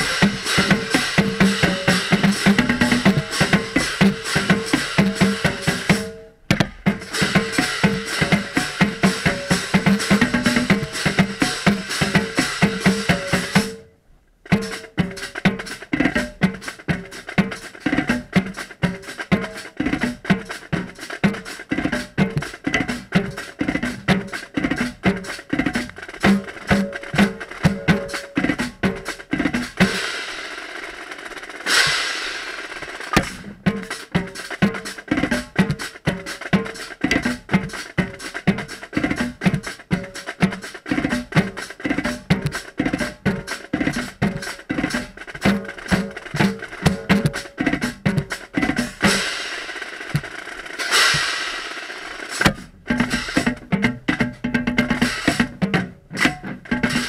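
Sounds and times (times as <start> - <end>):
marching tenor drums: 0.0 - 13.8, 14.4 - 57.0.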